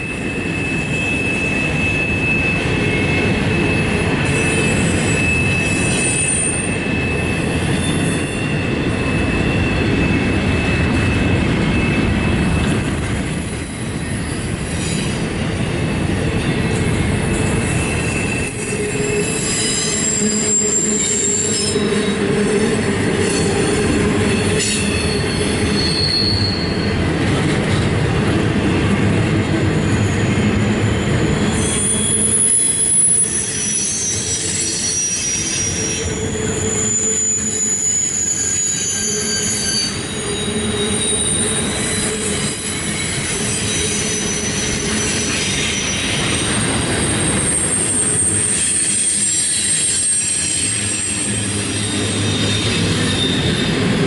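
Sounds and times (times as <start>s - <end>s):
high-pitched wheel squeals: 0.0s - 27.0s, 29.7s - 53.9s
train wheels rumbling on rail: 0.0s - 54.0s.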